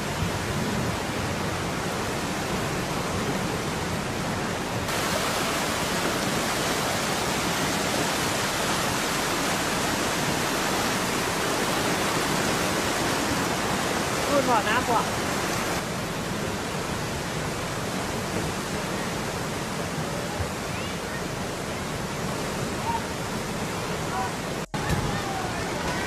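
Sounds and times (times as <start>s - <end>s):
floodwater rushing in river: 0.0s - 26.0s.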